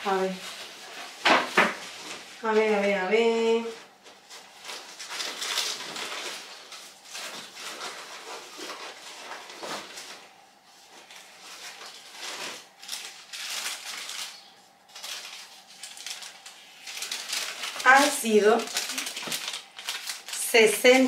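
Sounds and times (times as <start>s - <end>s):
plastic bags rustling: 0.0s - 21.0s.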